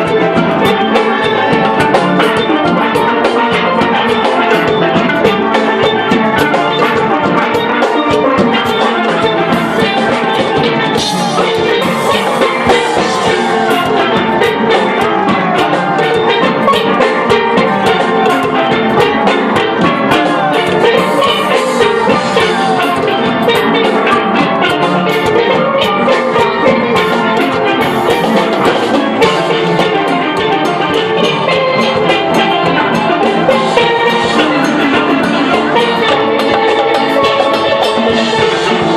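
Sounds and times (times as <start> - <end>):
drums fast beat: 0.0 - 38.9
steel band playing: 0.0 - 38.9.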